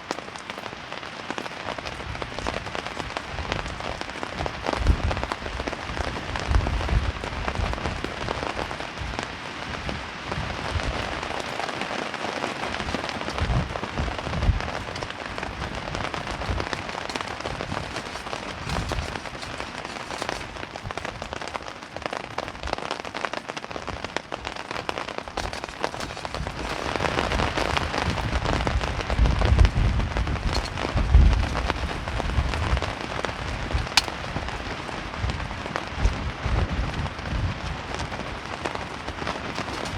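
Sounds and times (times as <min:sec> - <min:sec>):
heavy rain pattering: 0:00.0 - 0:39.9
wind gusts rumbling: 0:00.0 - 0:39.9.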